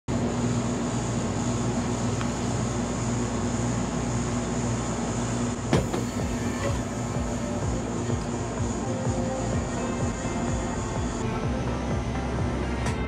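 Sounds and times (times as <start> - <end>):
refrigeration compressor and fan humming: 0.1 - 13.0.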